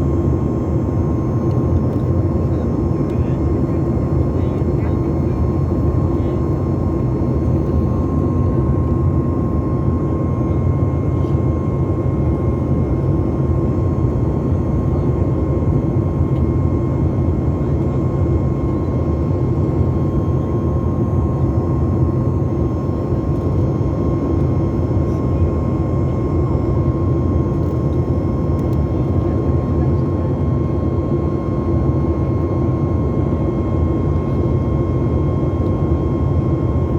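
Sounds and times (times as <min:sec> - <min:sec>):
jet engine cabin rumble: 0:00.0 - 0:36.9.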